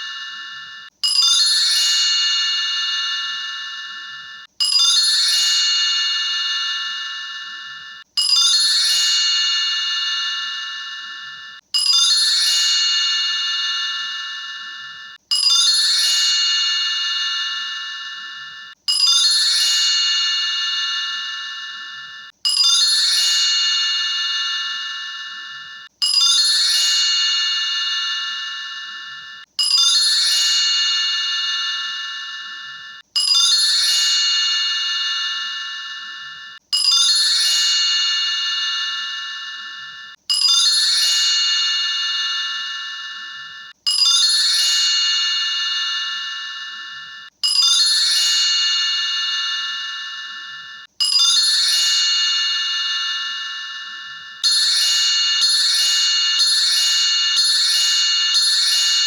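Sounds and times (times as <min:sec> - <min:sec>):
bell-like chime: 0:00.0 - 0:59.0.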